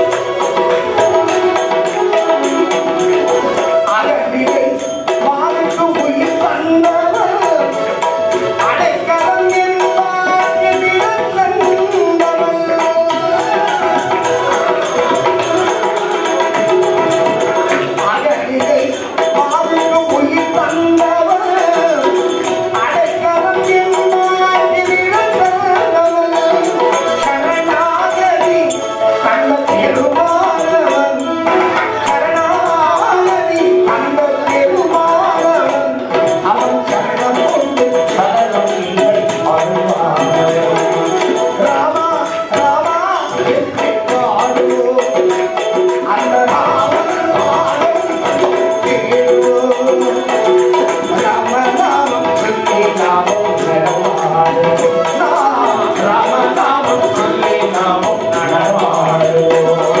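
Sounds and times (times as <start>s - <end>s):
hand drum rhythm: 0.0s - 60.0s
men singing devotional song: 0.0s - 60.0s.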